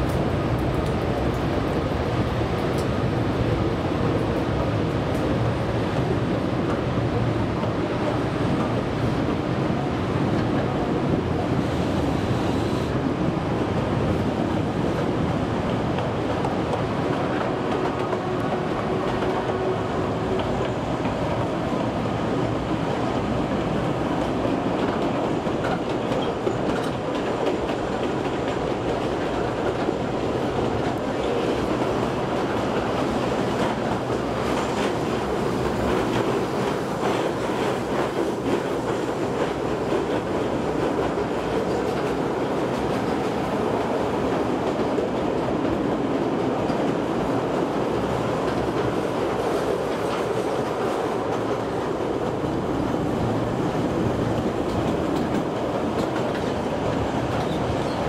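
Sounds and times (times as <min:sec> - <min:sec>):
track clacking: 0:00.0 - 0:58.0
train wheels rumbling on rails: 0:00.0 - 0:58.0.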